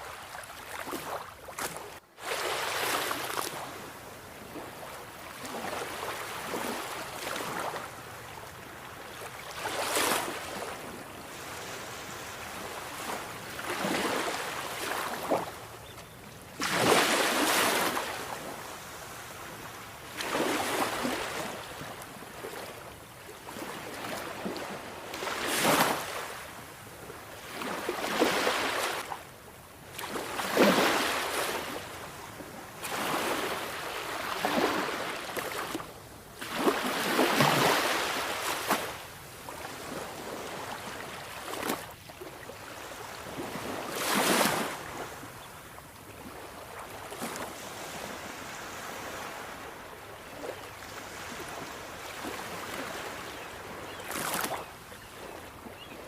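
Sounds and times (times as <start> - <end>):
sea waves breaking on shore: 0.0 - 29.2, 29.8 - 56.0.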